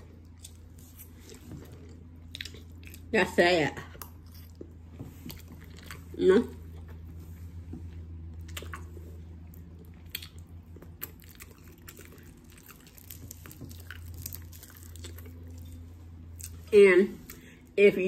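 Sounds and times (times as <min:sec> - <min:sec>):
person chewing food: 0:00.0 - 0:03.1, 0:03.8 - 0:17.7
low hum: 0:00.0 - 0:18.0.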